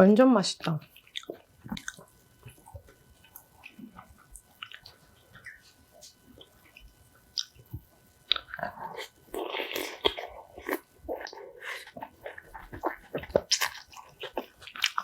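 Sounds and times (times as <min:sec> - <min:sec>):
wet eating noises: 0:00.6 - 0:15.0
person chewing food crunchily: 0:00.7 - 0:15.0.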